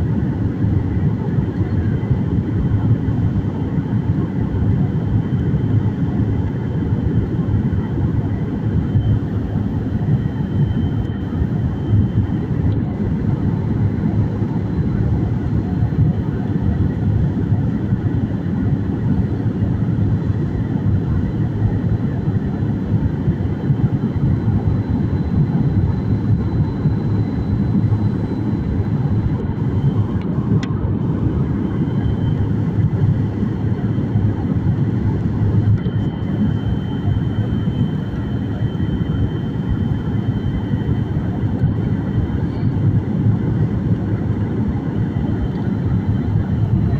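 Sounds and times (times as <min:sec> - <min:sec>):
engine and airflow rumble: 0:00.0 - 0:46.9
faint high engine whine: 0:00.0 - 0:46.9.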